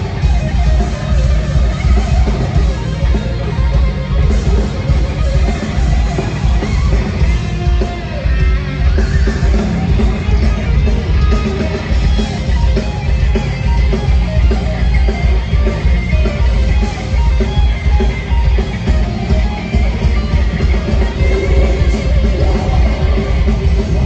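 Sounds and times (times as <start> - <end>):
heavy metal band playing live: 0.0 - 24.0.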